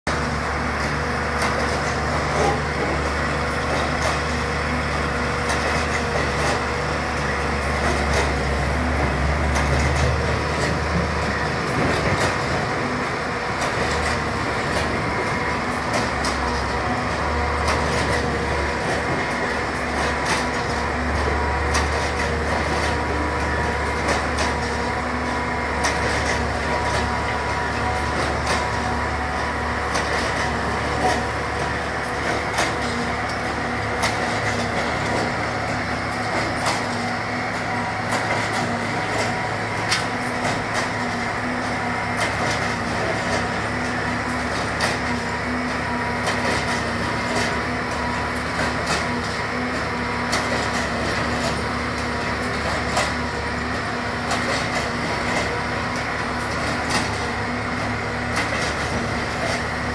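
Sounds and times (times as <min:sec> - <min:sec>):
machine engine droning: 0:00.1 - 0:59.9.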